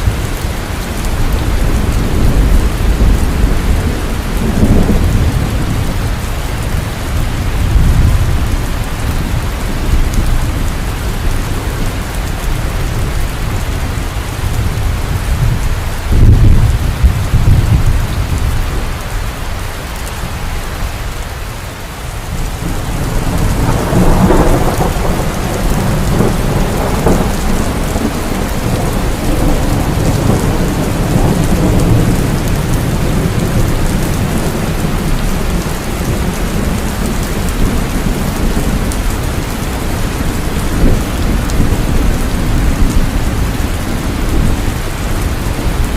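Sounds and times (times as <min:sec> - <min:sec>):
thunder rumbling: 0:00.0 - 0:21.3, 0:22.0 - 0:45.9
heavy rain falling: 0:00.0 - 0:45.9.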